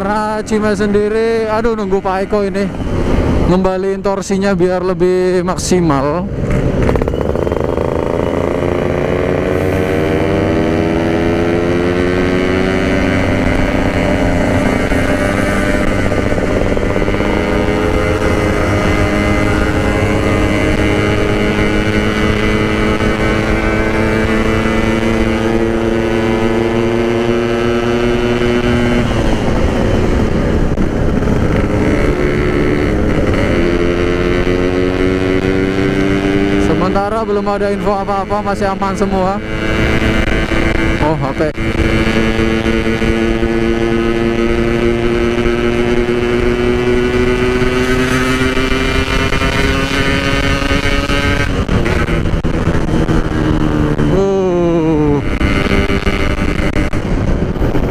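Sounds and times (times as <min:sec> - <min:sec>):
two-stroke motorcycle cruising: 0:00.0 - 0:57.9
wind and road rumble: 0:00.0 - 0:57.9.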